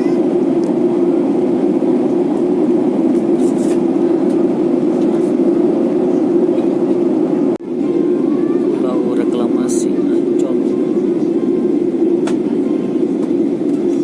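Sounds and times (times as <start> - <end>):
airliner cabin engine hum: 0.0 - 14.0.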